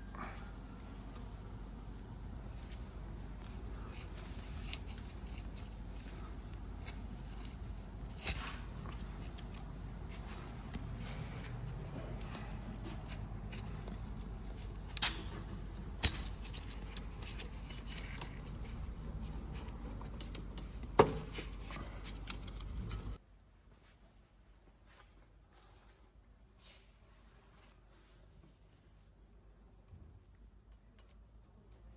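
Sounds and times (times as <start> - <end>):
low background hum: 0.0 - 31.9.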